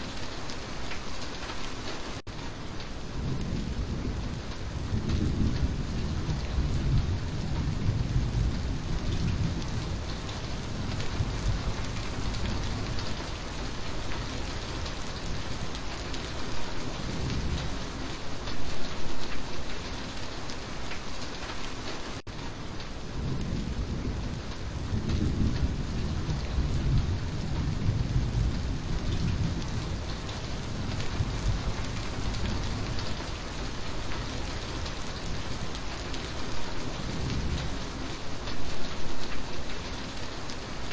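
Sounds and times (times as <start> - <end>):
steady rain falling: 0.0 - 40.9
rolling thunder: 3.0 - 19.3, 23.0 - 39.7.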